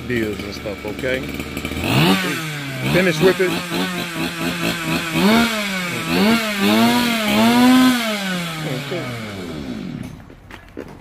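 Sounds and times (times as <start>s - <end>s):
chainsaw engine revving: 0.0s - 10.4s.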